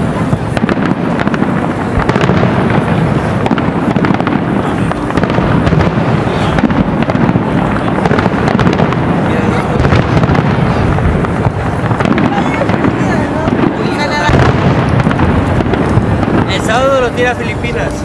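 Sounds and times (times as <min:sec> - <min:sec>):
fireworks bangs and crackles: 0:00.0 - 0:18.0
low rumble: 0:01.4 - 0:18.0.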